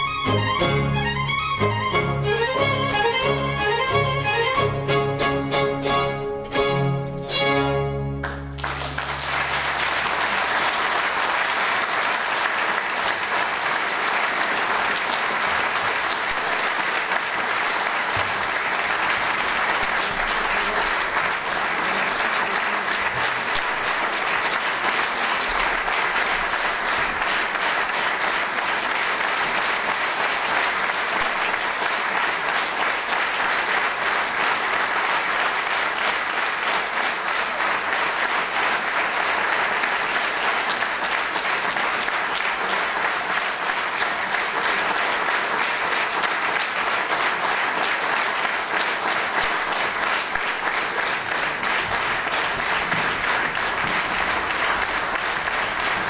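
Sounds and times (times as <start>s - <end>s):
audience applauding: 0.0s - 56.0s.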